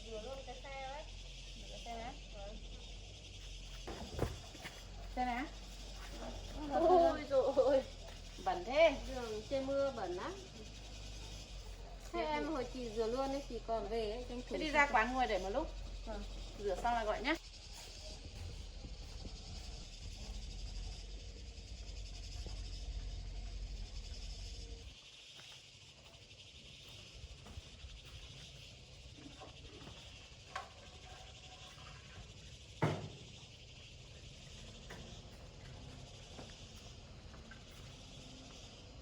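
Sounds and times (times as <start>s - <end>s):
insects chirring: 0.0s - 39.0s.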